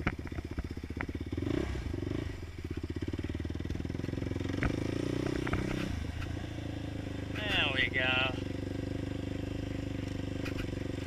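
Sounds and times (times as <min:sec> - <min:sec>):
quad engine running unevenly: 0:00.0 - 0:11.0.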